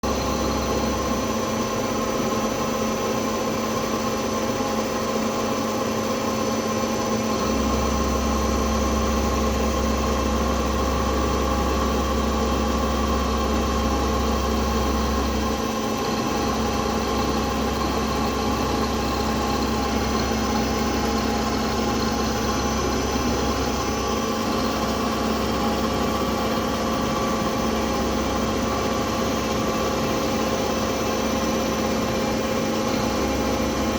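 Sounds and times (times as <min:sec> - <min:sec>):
milling machine hum: 0:00.1 - 0:33.9.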